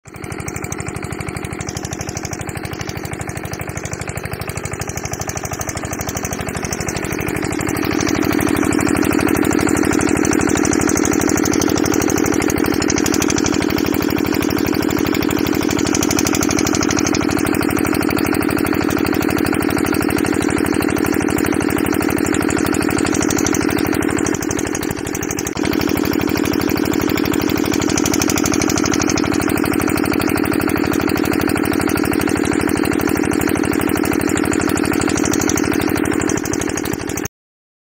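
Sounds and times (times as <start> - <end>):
diesel pump engine running: 0.0 - 37.3.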